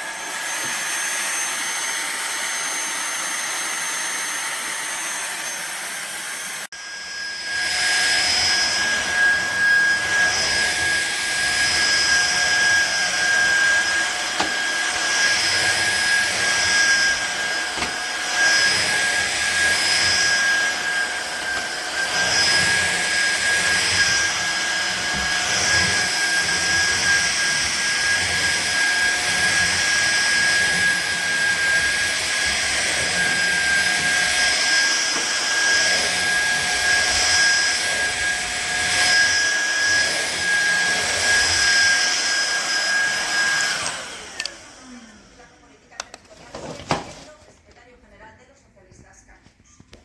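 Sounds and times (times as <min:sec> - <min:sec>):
stick vacuum motor whine: 0:00.0 - 0:47.2.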